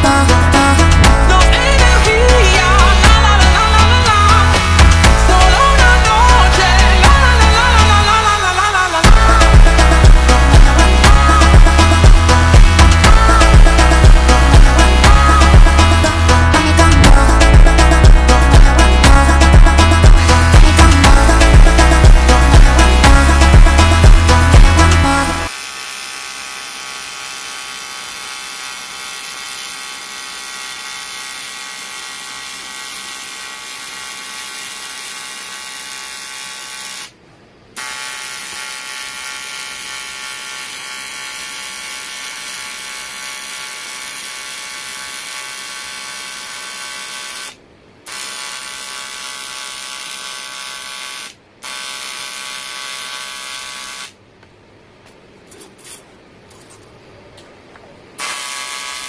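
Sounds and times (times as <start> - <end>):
welding arc buzzing: 0.0 - 37.2, 37.8 - 54.2, 58.2 - 59.0.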